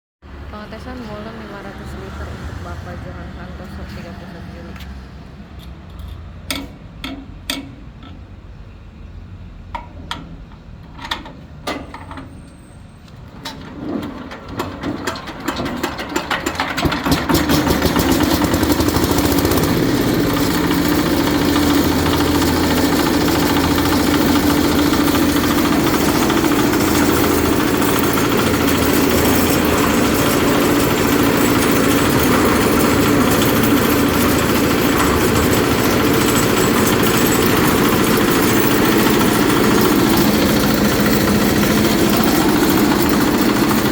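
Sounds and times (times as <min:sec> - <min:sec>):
diesel engine starting and running: 0:00.2 - 0:43.9.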